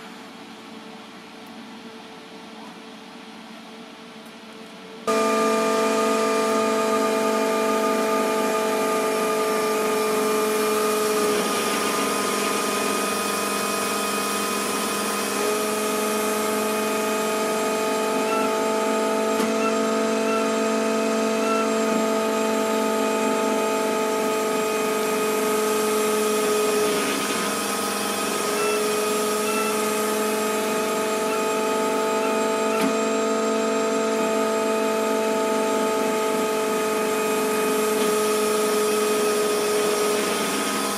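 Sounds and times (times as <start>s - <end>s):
hydraulic rig mechanical whine: 5.0s - 40.9s.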